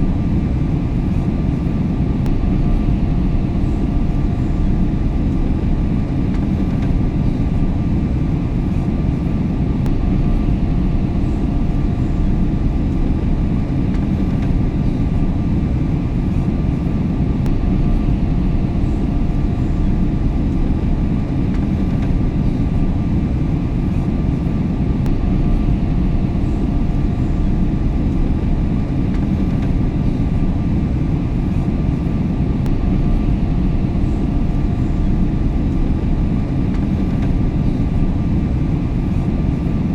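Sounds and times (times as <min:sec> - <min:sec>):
airplane cabin engine rumble: 0:00.0 - 0:39.9
faint steady hums: 0:00.0 - 0:39.9.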